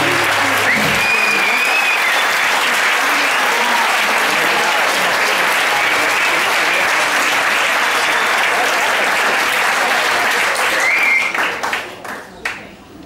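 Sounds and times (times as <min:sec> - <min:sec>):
audience applauding: 0:00.0 - 0:12.7
voices in crowd: 0:00.0 - 0:13.0.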